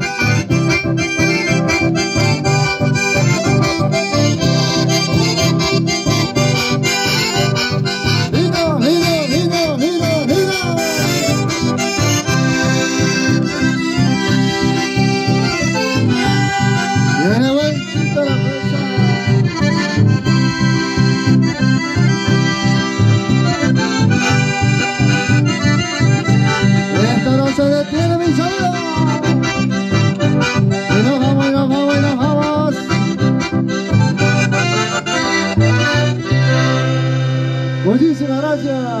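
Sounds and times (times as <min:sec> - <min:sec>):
acoustic guitar: 0:00.0 - 0:39.0
button accordion: 0:00.0 - 0:39.0.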